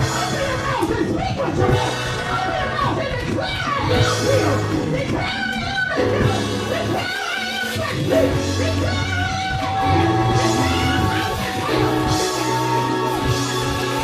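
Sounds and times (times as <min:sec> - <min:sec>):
band with steady bass: 0:00.0 - 0:14.0
voices singing: 0:00.0 - 0:14.0.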